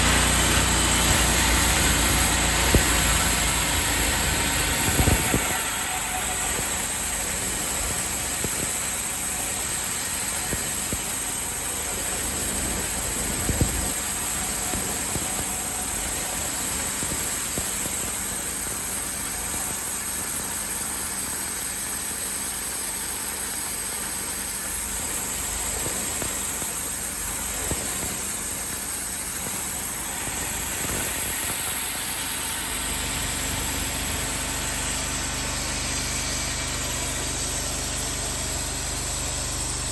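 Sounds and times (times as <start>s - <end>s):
bandsaw mill cutting log: 0.0s - 17.9s, 24.1s - 39.9s.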